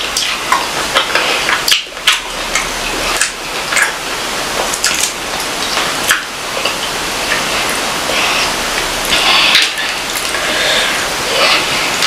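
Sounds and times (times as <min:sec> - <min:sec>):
wet chewing and mouth smacks: 0:00.0 - 0:10.6
steady hiss: 0:00.0 - 0:12.0.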